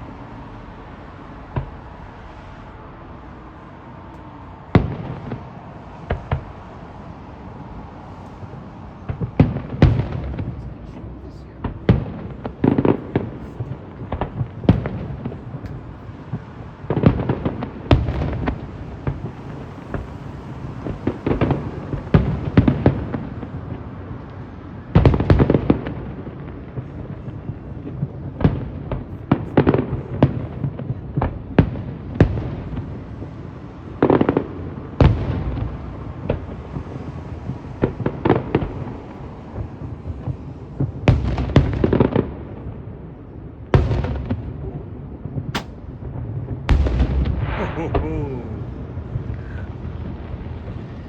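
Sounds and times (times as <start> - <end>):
fireworks bangs and crackling pops: 1.5 - 2.0, 4.7 - 6.8, 8.3 - 51.0.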